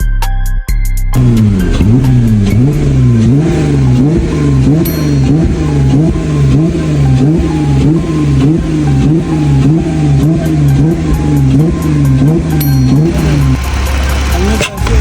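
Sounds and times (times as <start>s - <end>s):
car engine revving: 1.2s - 15.0s.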